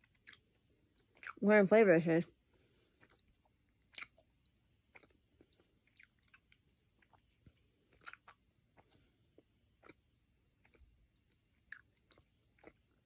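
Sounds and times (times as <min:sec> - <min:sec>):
person chewing: 0:00.0 - 0:01.4, 0:02.7 - 0:13.0.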